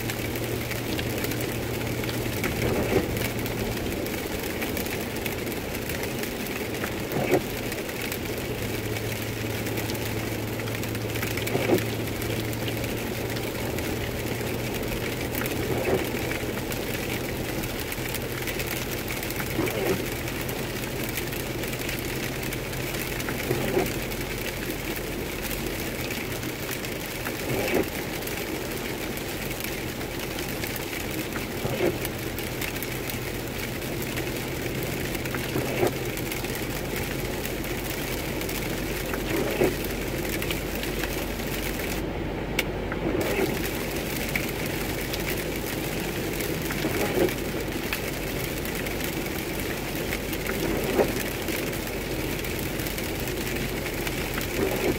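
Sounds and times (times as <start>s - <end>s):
rain on windshield: 0.0s - 54.9s
windshield wiper sweep: 0.2s - 54.9s.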